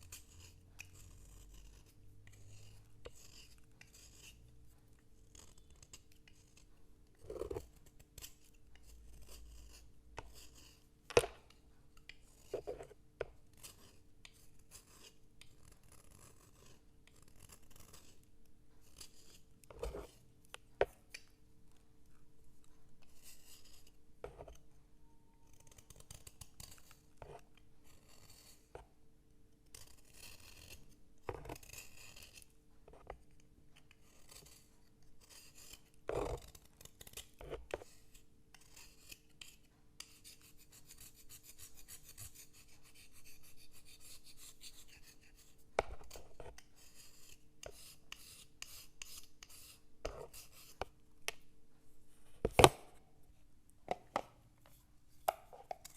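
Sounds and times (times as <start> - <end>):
scratching on writing slate: 0.0 - 21.3, 22.5 - 24.8, 25.5 - 29.0, 29.8 - 51.4.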